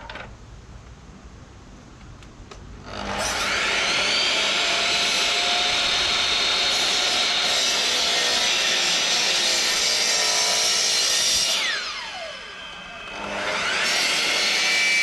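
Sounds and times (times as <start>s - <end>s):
power tool motor whine: 2.9s - 15.0s.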